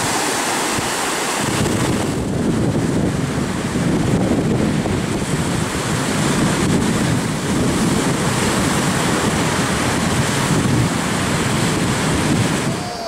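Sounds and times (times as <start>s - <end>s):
surf breaking on a beach: 0.0s - 13.0s
wind buffeting microphone: 0.0s - 13.0s.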